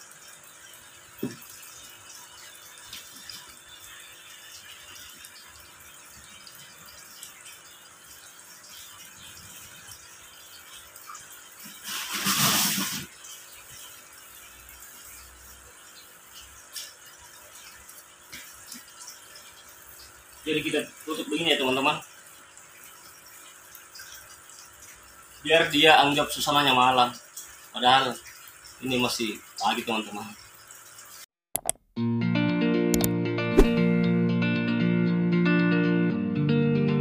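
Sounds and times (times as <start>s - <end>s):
aerated tank water noise: 0.0s - 31.8s.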